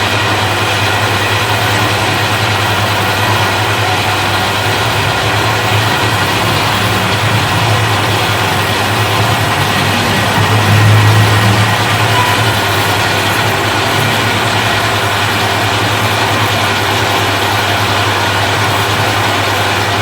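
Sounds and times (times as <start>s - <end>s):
lathe running: 0.0s - 20.0s.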